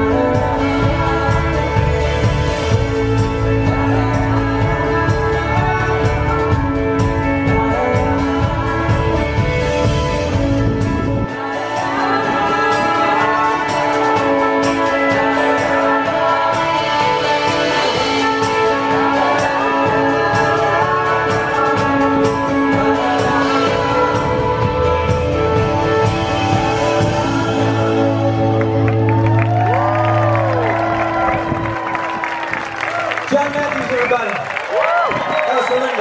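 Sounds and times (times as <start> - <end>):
electric guitar: 0.0 - 36.0.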